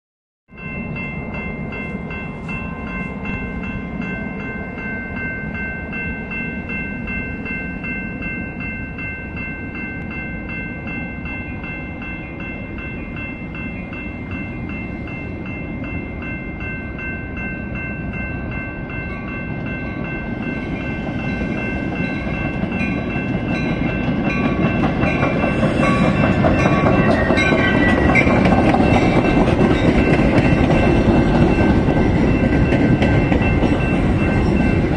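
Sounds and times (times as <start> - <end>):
crossing warning bell ringing: 0.5 - 34.9
passenger train rumble: 0.5 - 34.9.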